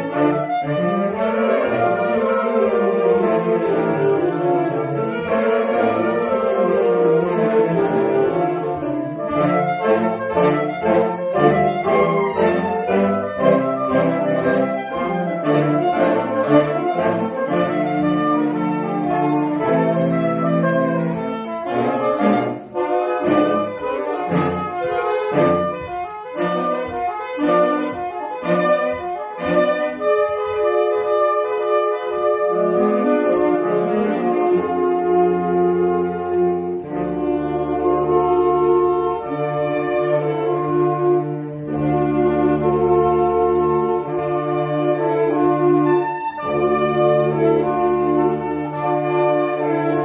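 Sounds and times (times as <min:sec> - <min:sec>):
saxophone and clarinet ensemble: 0:00.0 - 0:50.0.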